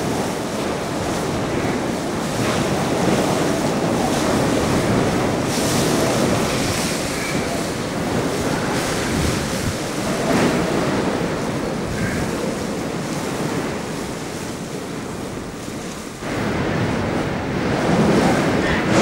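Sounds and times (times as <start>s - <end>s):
wind howling through building: 0.0s - 19.0s.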